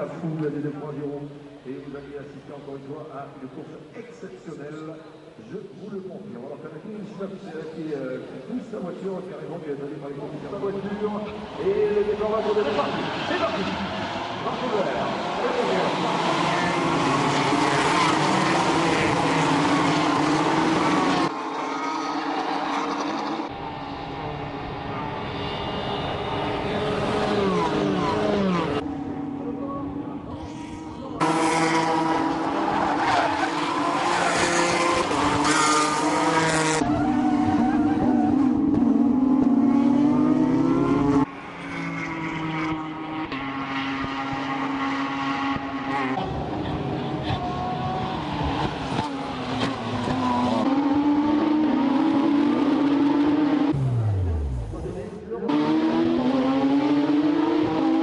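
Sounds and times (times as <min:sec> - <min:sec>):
racing car engines at high revs: 0:10.6 - 0:58.0.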